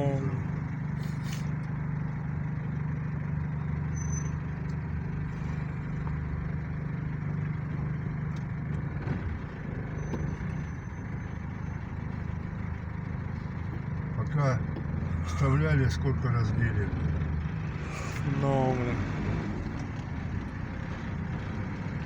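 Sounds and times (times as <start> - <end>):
road noise: 0.0 - 22.0
vehicle engine drone: 0.0 - 22.0.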